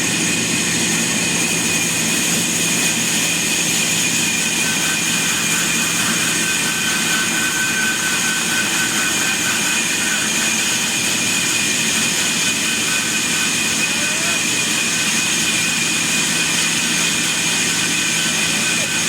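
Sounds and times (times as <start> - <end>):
sawmill machinery whirring: 0.0 - 19.0.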